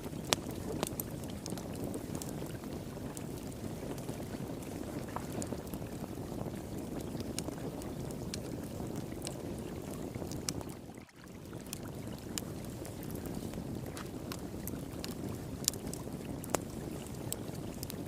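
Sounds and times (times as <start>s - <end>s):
flowing water: 0.0s - 18.0s
wood fire crackling and popping: 0.0s - 18.0s.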